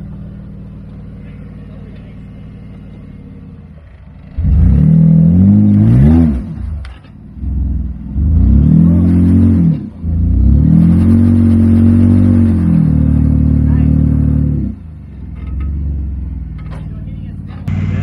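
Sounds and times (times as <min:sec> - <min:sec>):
engine revving under load: 0:00.0 - 0:16.6.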